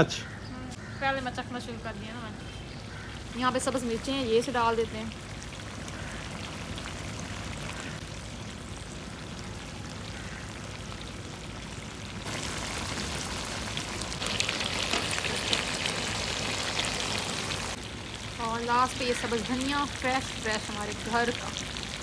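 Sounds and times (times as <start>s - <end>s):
meat sizzling in a wok: 3.4s - 22.0s.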